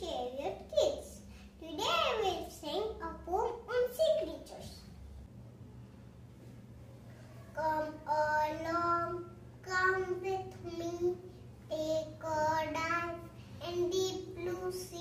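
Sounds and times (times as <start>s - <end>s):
girl reciting a poem: 0.0s - 5.1s, 7.4s - 15.0s
faint low hum: 0.0s - 15.0s.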